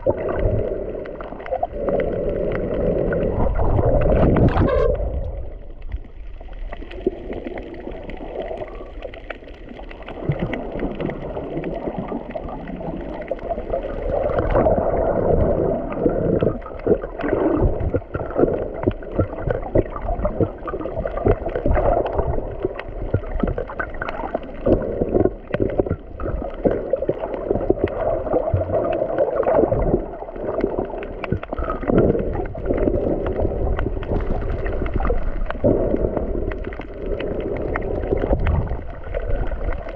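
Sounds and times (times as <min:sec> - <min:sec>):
muffled underwater sloshing: 0:00.0 - 0:39.9
water splashes: 0:00.0 - 0:39.9.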